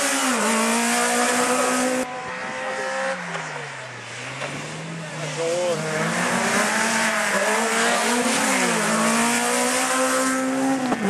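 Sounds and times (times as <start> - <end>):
distant car engine: 0.0 - 11.0
rally car engine at high revs: 0.0 - 11.0.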